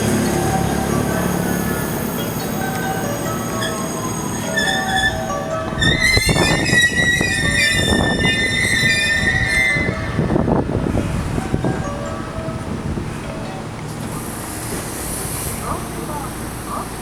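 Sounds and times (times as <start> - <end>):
train brakes squealing: 0.0 - 17.0
train rumbling and knocking: 0.0 - 17.0.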